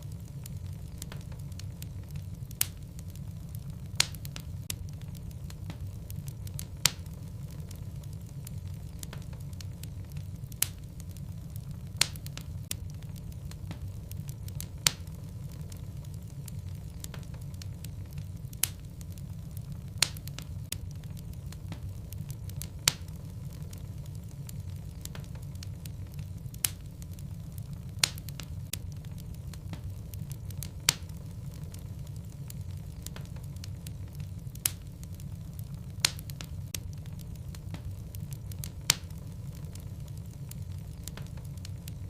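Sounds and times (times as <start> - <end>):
burning logs popping: 0.0 - 42.0
fireplace flames rumbling: 0.0 - 42.0.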